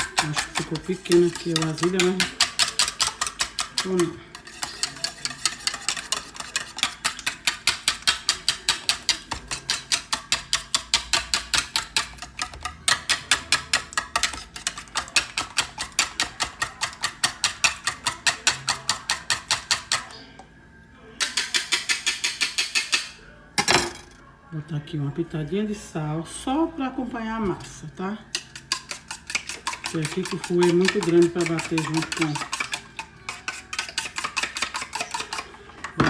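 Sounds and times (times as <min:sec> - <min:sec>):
whisk clicking against bowl: 0:00.0 - 0:20.1, 0:21.2 - 0:23.2, 0:28.3 - 0:36.0.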